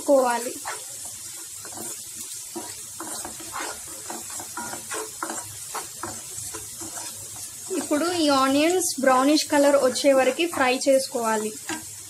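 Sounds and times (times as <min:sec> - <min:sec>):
onions sizzling in hot oil: 0:00.0 - 0:12.0
wooden spatula scraping pan: 0:00.0 - 0:12.0.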